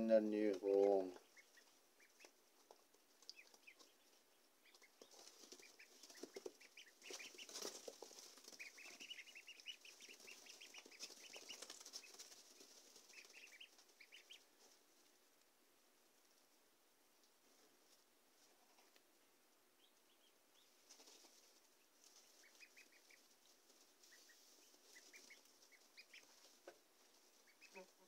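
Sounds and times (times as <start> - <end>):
ducklings peeping: 0.0 - 14.9, 19.6 - 28.0
rustle of wood shavings: 0.2 - 15.2, 20.6 - 28.0.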